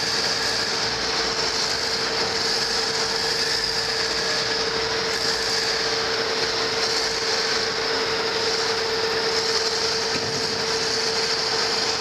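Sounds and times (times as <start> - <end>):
heavy machinery drone: 0.0 - 12.0.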